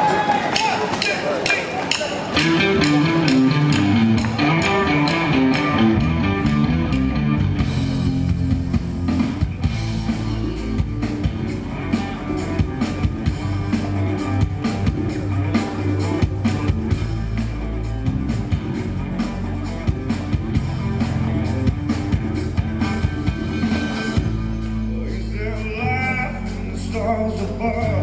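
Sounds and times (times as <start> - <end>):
steady drum beat: 0.0 - 28.0
sustained bass line: 2.4 - 28.0.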